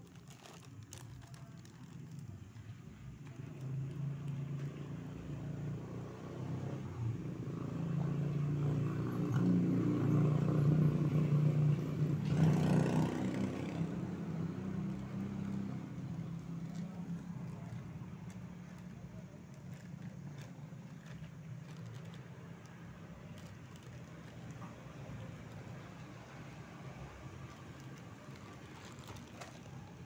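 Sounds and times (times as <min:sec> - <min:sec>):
vehicle engine passing by: 0:03.2 - 0:30.0.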